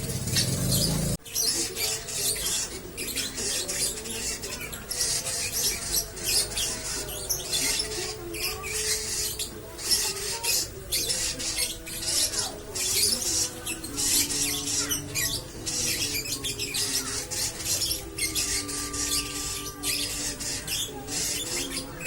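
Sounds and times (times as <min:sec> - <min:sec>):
lovebird chattering song: 0:00.0 - 0:22.0.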